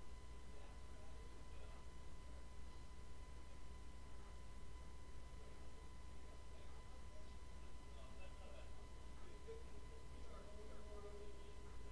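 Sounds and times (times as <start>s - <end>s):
faint thin whine: 0.0s - 11.9s
low steady hum: 0.0s - 11.9s.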